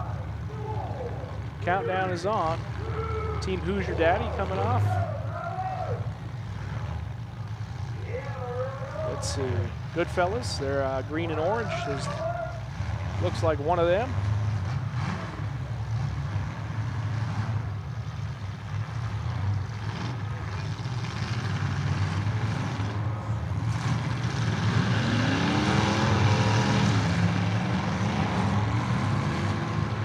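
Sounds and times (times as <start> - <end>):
car engines running: 0.0 - 30.0
engines revving: 0.0 - 30.0.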